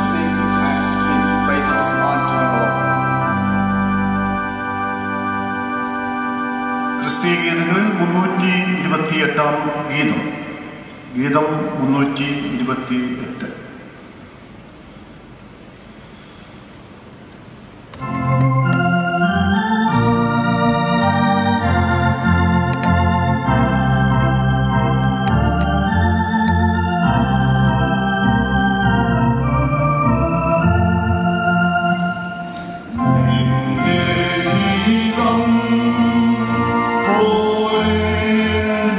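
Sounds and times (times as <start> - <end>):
organ playing a hymn: 0.0 - 14.2, 17.7 - 38.9.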